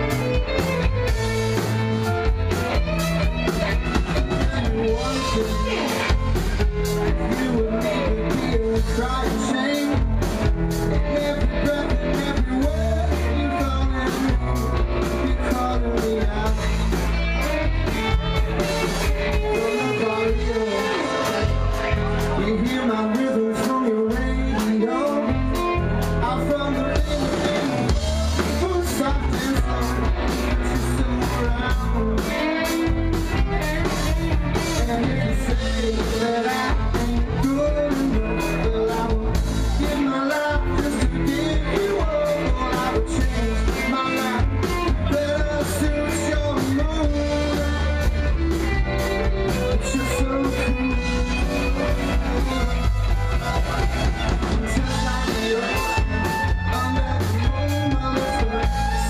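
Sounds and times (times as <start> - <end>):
drum kit steady beat: 0.0 - 59.0
electric guitars: 0.0 - 59.0.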